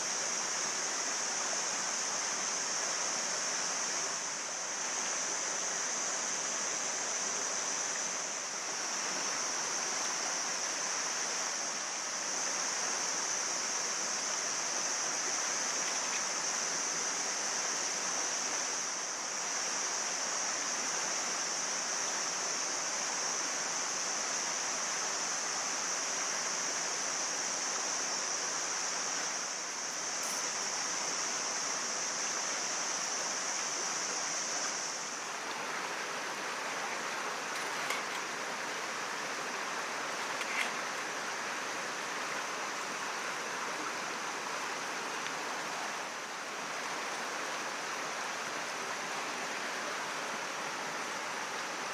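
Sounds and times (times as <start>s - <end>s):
mountain stream rushing: 0.0s - 51.9s.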